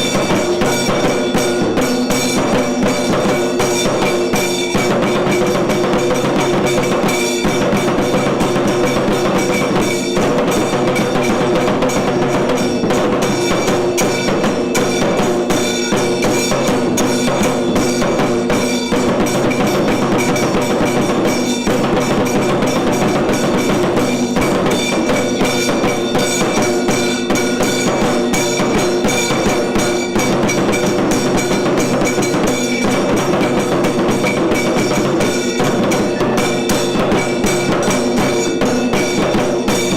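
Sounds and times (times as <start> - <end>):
fast drumming and percussion: 0.0 - 39.9.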